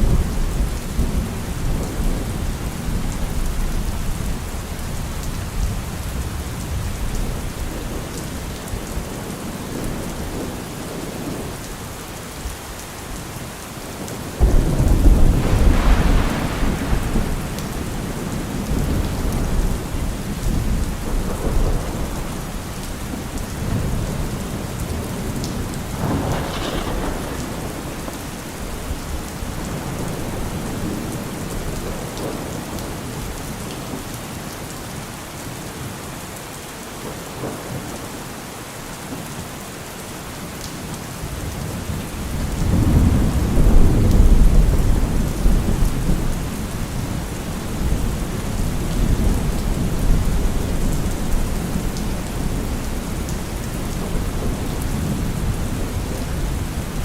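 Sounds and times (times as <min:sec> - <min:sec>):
thunder clap and rumble: 0:00.0 - 0:11.6, 0:14.0 - 0:34.1, 0:41.3 - 0:57.0
heavy rain on a car roof: 0:00.0 - 0:57.0.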